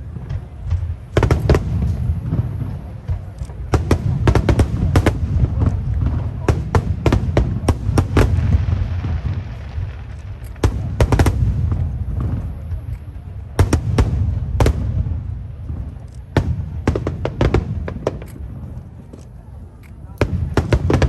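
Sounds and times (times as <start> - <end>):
crackling hiss of fireworks: 0.0 - 21.0
fireworks bangs: 0.0 - 21.0.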